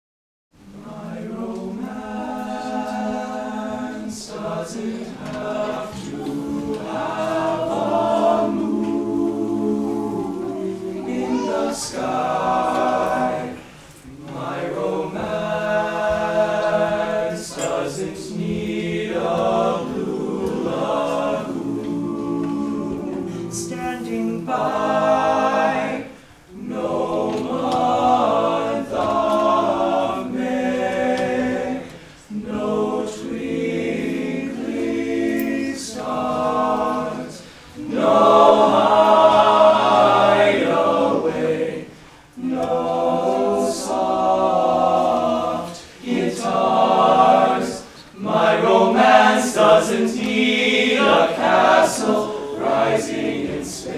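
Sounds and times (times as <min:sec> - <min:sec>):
male choir singing a cappella: 0:00.6 - 0:53.9.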